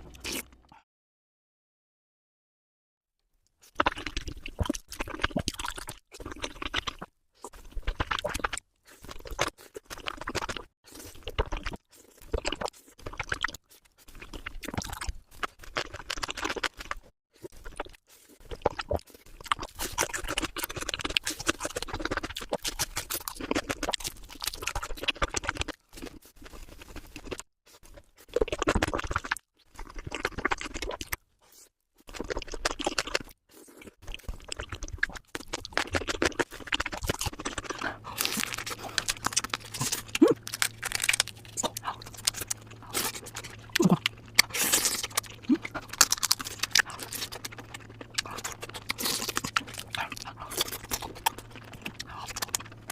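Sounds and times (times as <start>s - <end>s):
crunching and chewing crisp food: 0.0s - 0.8s, 3.4s - 52.9s.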